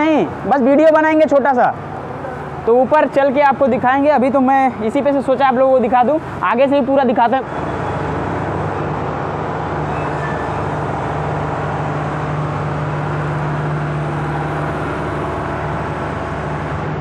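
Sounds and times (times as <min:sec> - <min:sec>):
constant rushing noise: 0:00.0 - 0:17.0
low engine hum: 0:01.6 - 0:17.0.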